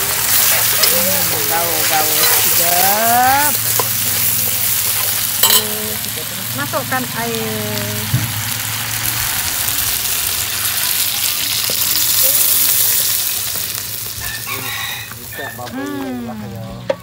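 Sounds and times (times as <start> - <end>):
wok sizzling: 0.0 - 17.0.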